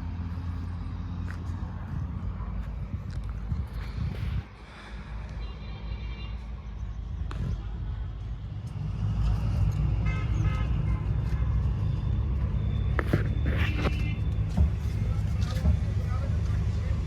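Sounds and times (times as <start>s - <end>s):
traffic engine rumble: 0.0s - 17.0s.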